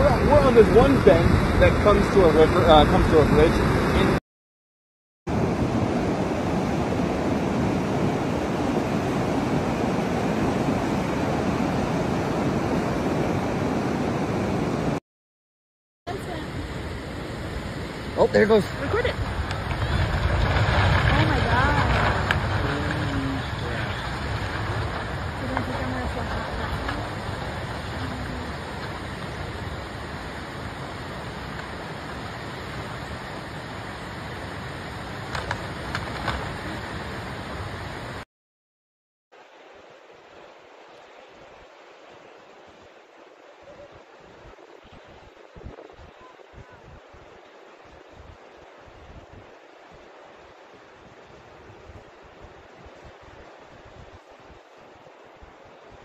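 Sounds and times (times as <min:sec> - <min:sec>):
rushing floodwater: 0:00.0 - 0:04.2, 0:05.3 - 0:15.0, 0:16.1 - 0:38.2, 0:39.4 - 0:56.0.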